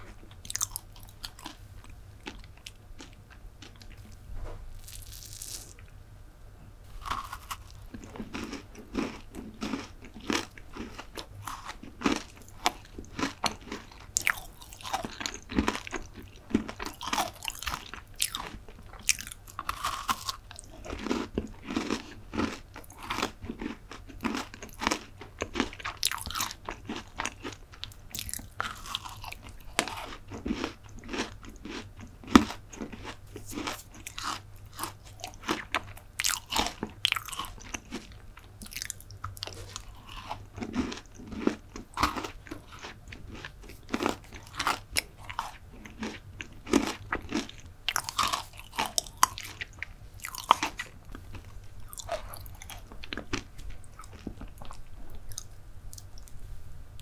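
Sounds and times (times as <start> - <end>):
crunchy biting and chewing: 0.0 - 4.2, 4.8 - 5.9, 6.9 - 56.3.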